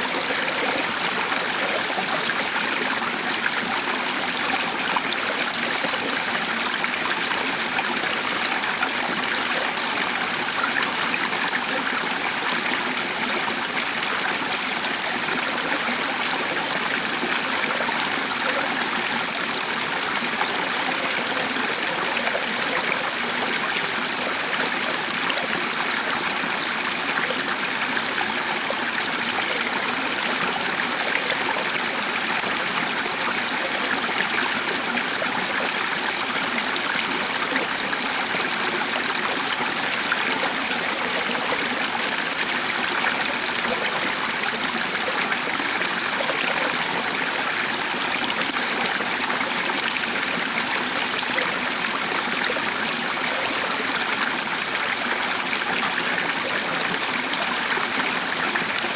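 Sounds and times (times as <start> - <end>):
stream of water running: 0.0 - 58.9.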